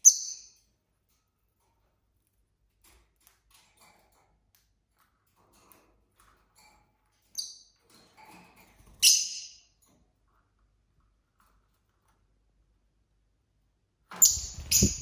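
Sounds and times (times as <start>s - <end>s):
birds chirping and clicking: 0.0s - 12.4s, 14.1s - 15.0s.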